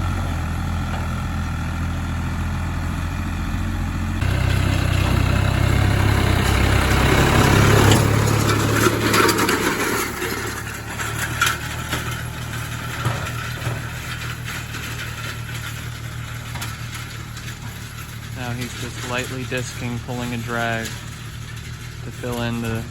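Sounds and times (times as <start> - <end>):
tractor diesel engine running: 0.0 - 22.9
short rattles: 4.2 - 22.9.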